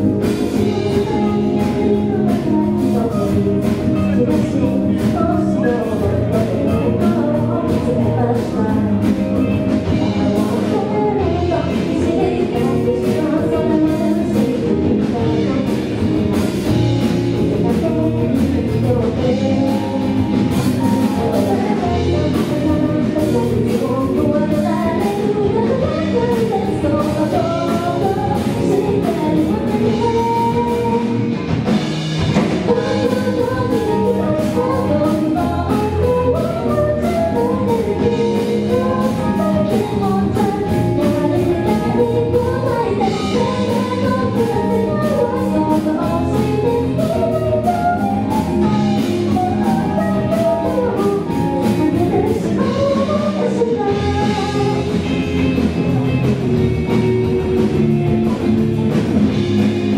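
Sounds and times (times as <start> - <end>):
female vocals singing: 0.0 - 31.4, 32.6 - 56.2
bass guitar: 0.0 - 59.9
drum kit: 0.0 - 59.9
electric guitars: 0.0 - 59.9.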